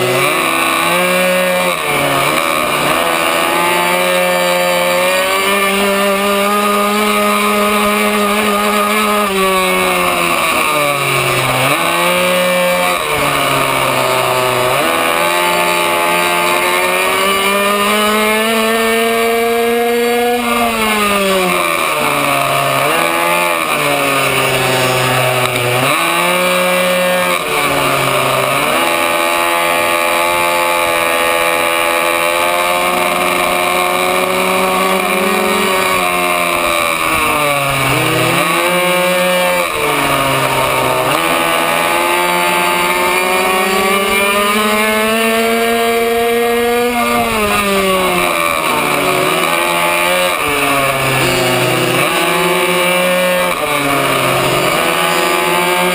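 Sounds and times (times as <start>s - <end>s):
two-stroke minibike engine revving: 0.0s - 55.9s.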